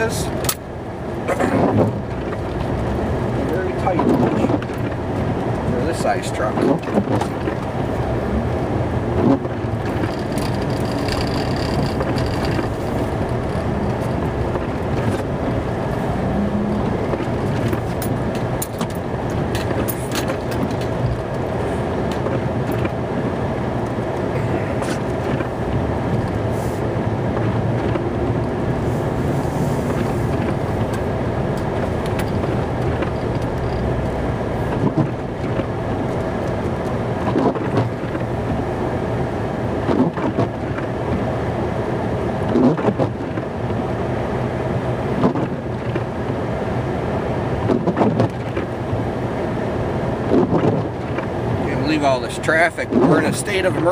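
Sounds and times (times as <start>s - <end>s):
truck engine running: 0.0s - 47.7s.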